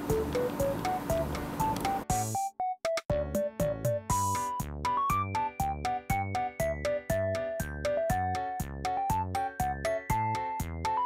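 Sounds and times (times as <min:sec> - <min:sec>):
light synthesizer music: 0:00.0 - 0:11.0.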